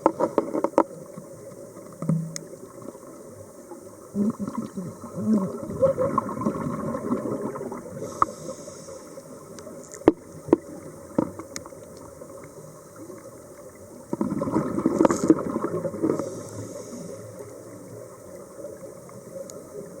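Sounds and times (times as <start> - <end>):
exhaled bubbles bubbling: 1.0 - 8.2, 9.3 - 20.0
underwater hiss: 2.4 - 19.9.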